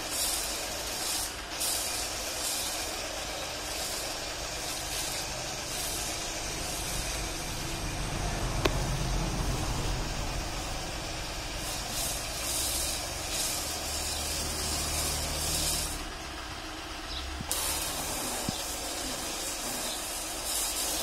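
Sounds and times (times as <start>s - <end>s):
foam lance spraying hiss: 0.0s - 21.0s.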